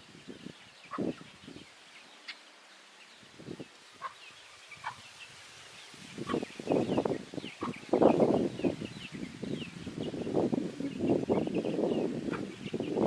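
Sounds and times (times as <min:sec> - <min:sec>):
wind buffeting microphone: 0:00.0 - 0:01.8, 0:03.1 - 0:13.0
small birds chirping: 0:00.0 - 0:13.0.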